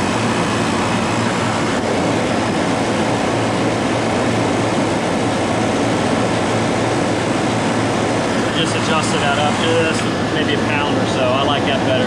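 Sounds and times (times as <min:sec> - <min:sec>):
refrigeration unit humming: 0:00.0 - 0:12.0.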